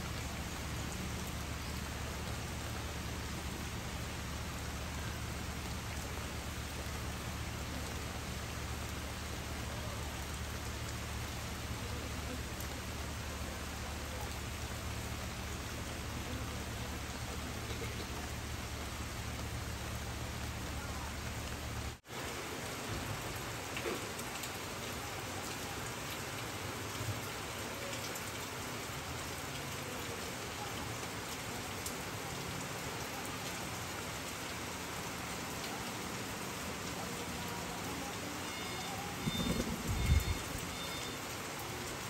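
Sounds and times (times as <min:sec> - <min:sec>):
rain on leaves and pavement: 0:00.0 - 0:42.0.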